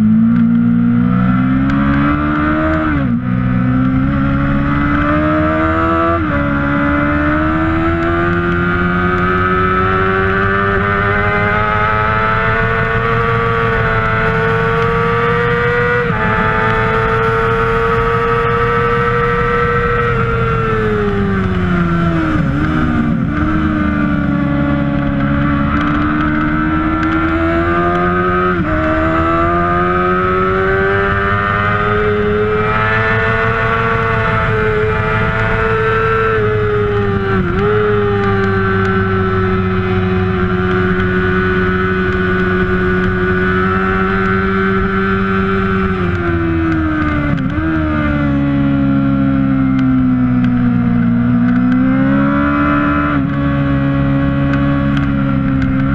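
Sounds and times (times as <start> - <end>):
motorcycle engine at high revs: 0.0 - 55.9.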